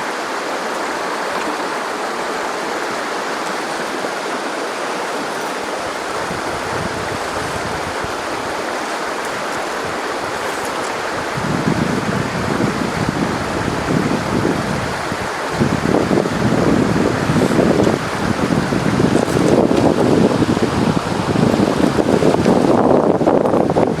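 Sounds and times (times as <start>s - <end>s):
river water rushing: 0.0s - 24.0s
wind buffeting microphone: 0.0s - 24.0s.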